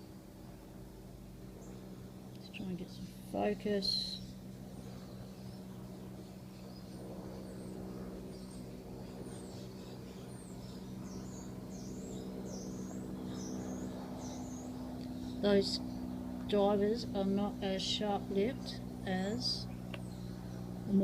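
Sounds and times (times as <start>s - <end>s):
low electrical hum: 0.0s - 21.0s
birds chirping: 1.4s - 21.0s.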